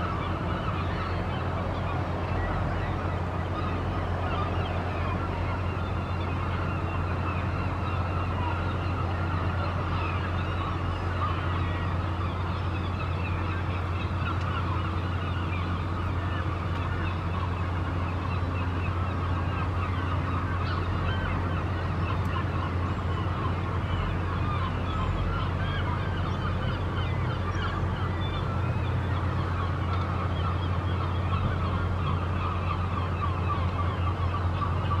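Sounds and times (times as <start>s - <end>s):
birds chirping and honking: 0.0s - 35.0s
steady low hum: 0.0s - 35.0s.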